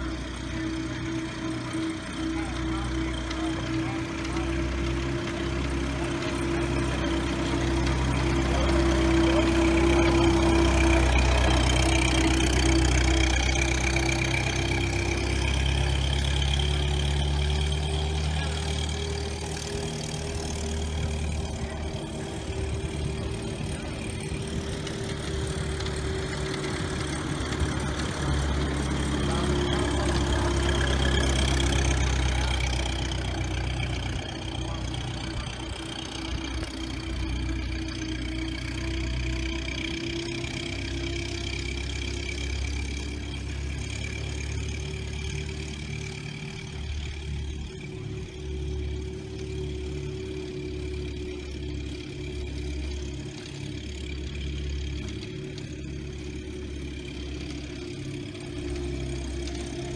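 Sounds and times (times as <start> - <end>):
old car engine running: 0.0 - 59.9.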